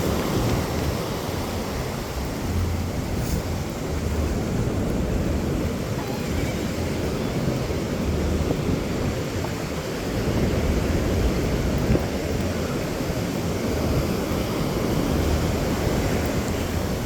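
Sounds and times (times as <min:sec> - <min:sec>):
low uneven rumble: 0:00.0 - 0:17.0
ocean surf: 0:00.0 - 0:17.0
wind buffeting microphone: 0:00.0 - 0:17.0.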